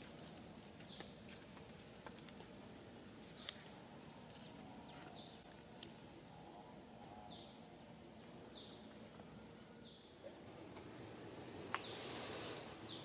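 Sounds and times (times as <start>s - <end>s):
faint forest ambience: 0.0s - 13.0s.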